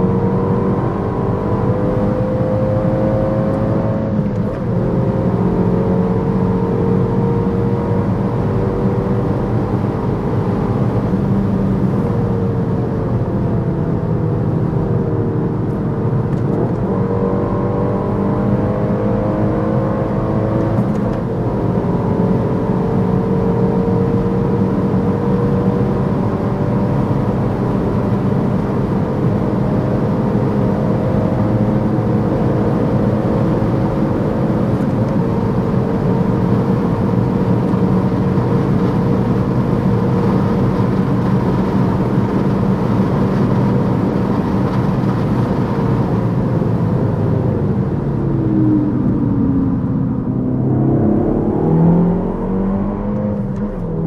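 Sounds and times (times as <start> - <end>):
car engine running hard: 0.0 - 54.0
road and wind noise: 0.0 - 54.0.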